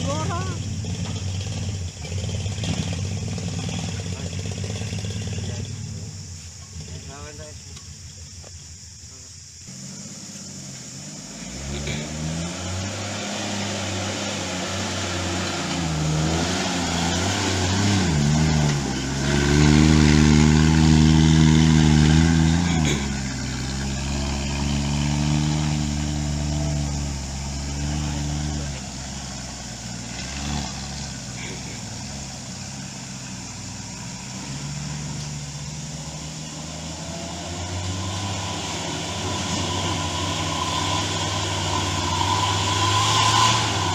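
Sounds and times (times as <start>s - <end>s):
off-road vehicle engine revving: 0.0s - 8.5s, 9.4s - 43.9s.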